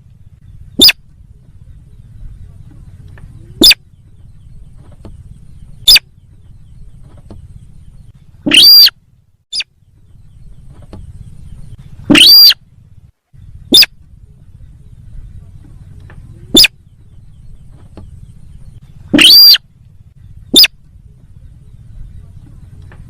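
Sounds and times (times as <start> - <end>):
faint low hum: 0.0 - 23.0
loud bird calls: 0.0 - 23.0.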